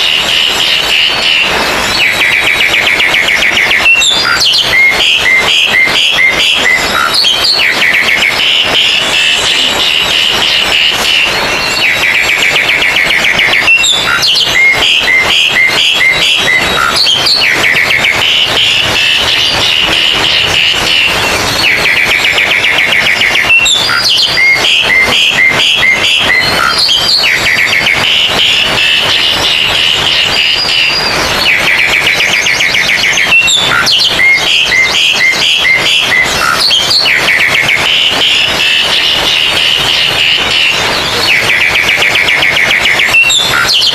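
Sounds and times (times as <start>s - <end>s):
songbirds singing and chattering: 0.0s - 43.9s.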